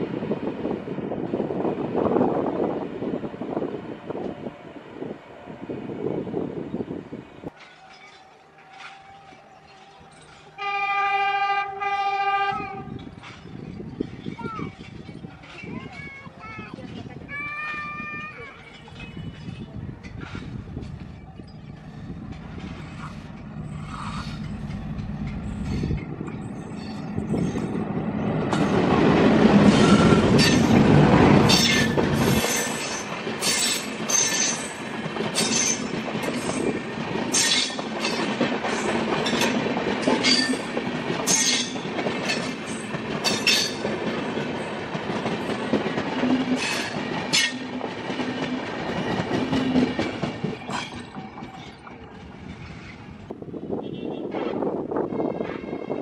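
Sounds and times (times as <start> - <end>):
diesel locomotive engine rumble: 0.0 - 56.0
train wheels clattering on rails: 7.5 - 53.5.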